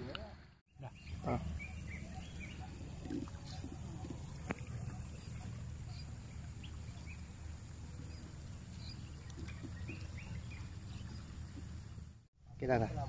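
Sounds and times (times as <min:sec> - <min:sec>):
bird chirps: 0:00.7 - 0:07.3, 0:08.0 - 0:12.6.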